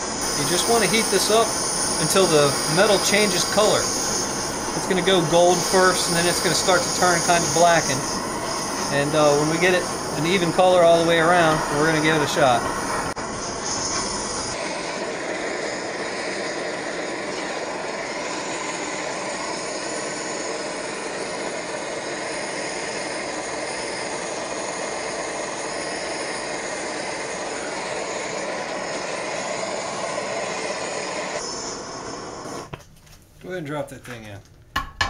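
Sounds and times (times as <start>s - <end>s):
propane torch hissing: 0.0s - 32.8s.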